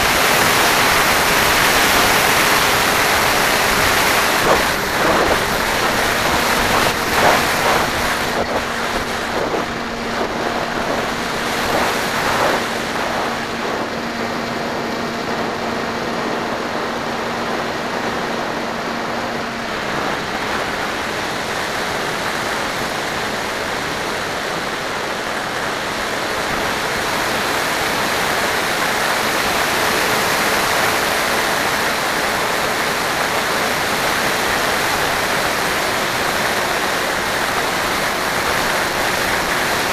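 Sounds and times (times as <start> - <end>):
faint motor hum: 0.0 - 39.9
wind rushing over microphone: 0.0 - 39.9.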